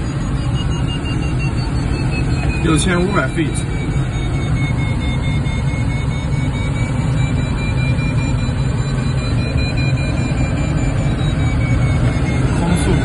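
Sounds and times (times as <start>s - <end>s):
air rushing past cockpit: 0.0s - 13.0s
faint steady high tone: 0.0s - 13.0s.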